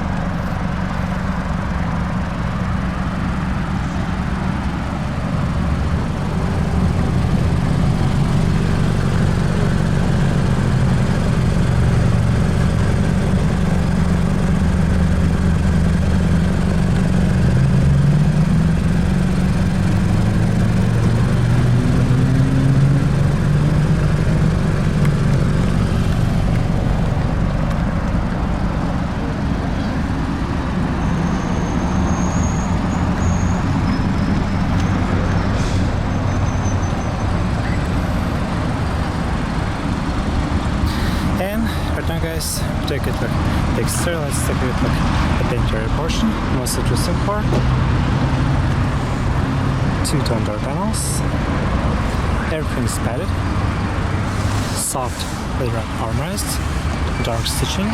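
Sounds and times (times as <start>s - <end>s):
car engine low rumble: 0.0s - 57.9s.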